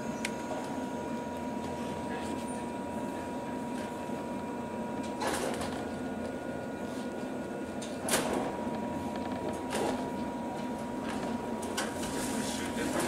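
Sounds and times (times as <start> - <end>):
electric train rumble and hum: 0.0 - 13.0.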